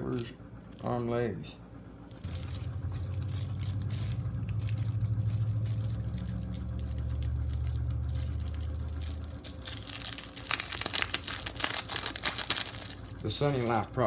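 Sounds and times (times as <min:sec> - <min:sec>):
low steady hum: 0:00.0 - 0:14.0
plastic sheet crinkling: 0:02.1 - 0:13.9.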